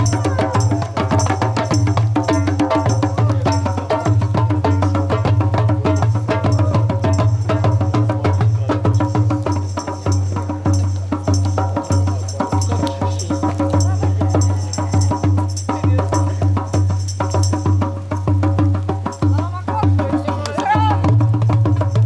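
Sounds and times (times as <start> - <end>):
rhythmic hand drum strokes: 0.0 - 22.0.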